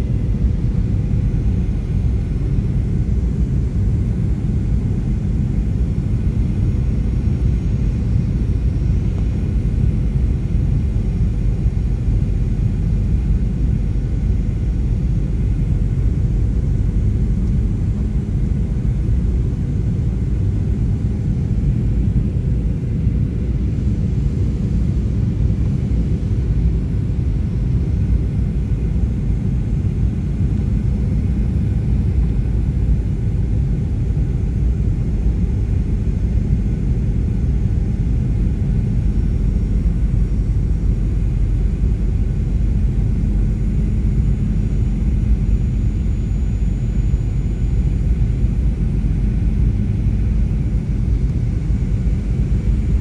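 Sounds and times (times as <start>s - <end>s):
airliner engines rumbling: 0.0s - 53.0s.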